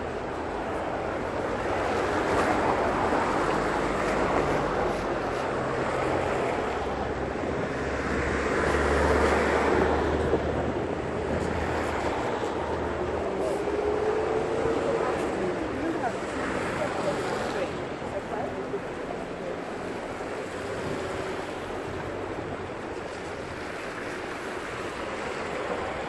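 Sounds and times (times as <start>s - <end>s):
tyres hissing on wet road: 0.0s - 26.0s.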